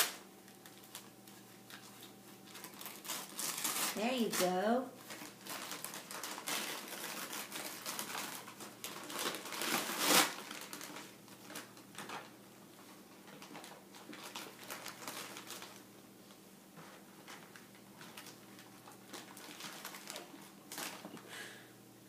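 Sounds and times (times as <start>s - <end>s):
wrapping paper tearing: 0.0s - 12.3s, 13.2s - 15.9s, 17.2s - 21.2s
paper rustling: 0.0s - 15.8s, 16.8s - 21.2s.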